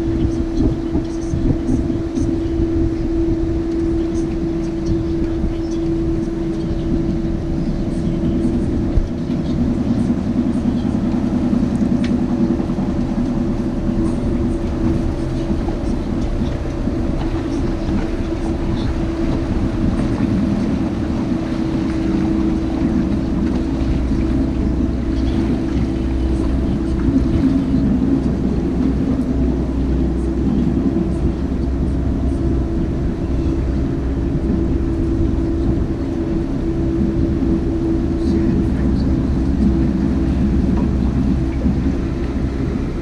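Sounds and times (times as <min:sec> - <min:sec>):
boat engine humming: 0:00.0 - 0:43.0.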